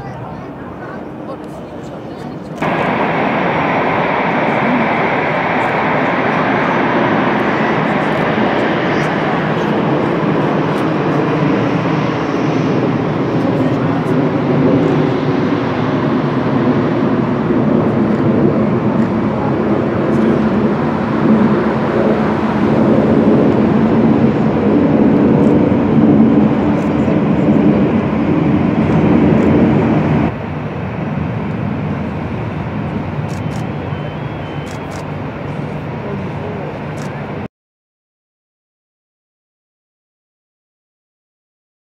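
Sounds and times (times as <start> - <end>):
jet engines rumbling: 0.0 - 37.5.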